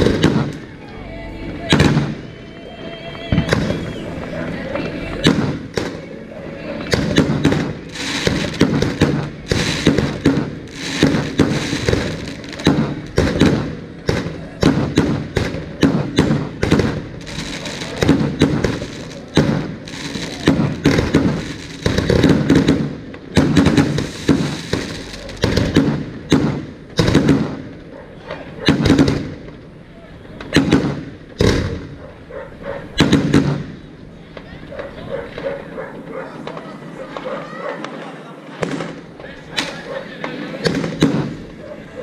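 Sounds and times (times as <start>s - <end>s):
fireworks bangs: 0.0s - 0.8s, 1.6s - 2.5s, 3.1s - 32.0s, 32.8s - 41.6s
fireworks crackling: 0.0s - 42.0s.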